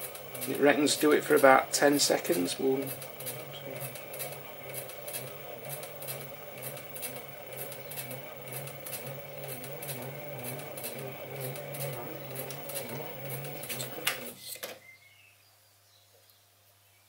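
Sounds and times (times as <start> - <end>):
knurling tool ticking: 0.0 - 14.5
lathe motor hum: 0.0 - 14.6.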